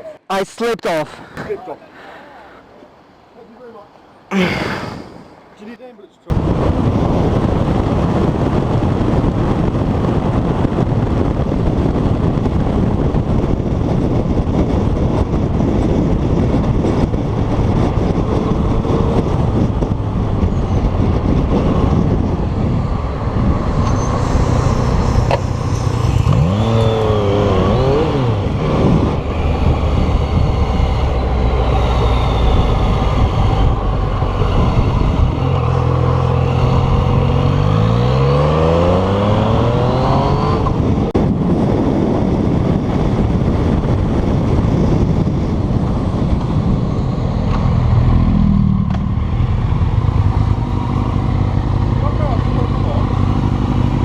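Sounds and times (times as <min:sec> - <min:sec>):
wind rush: 0:04.3 - 0:05.5, 0:06.3 - 0:52.3
motorcycle engine revving: 0:06.5 - 0:54.0.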